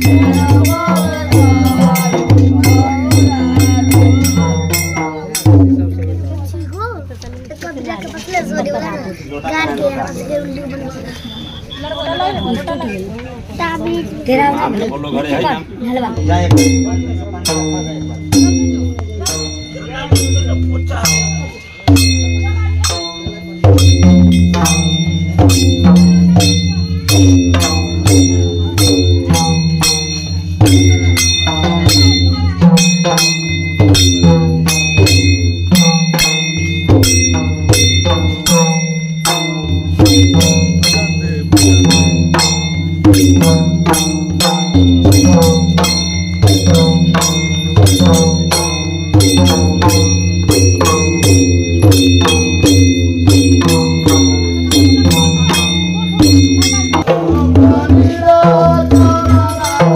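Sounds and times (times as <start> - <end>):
brass hand cymbals ringing: 0.0 - 6.3, 15.6 - 59.9
barrel drums beaten: 0.0 - 6.8, 16.1 - 59.9.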